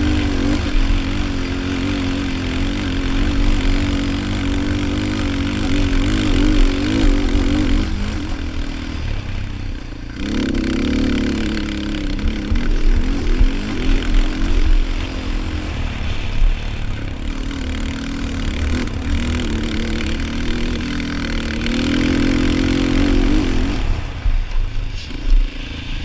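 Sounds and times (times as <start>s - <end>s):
quad engine revving: 0.0s - 24.2s.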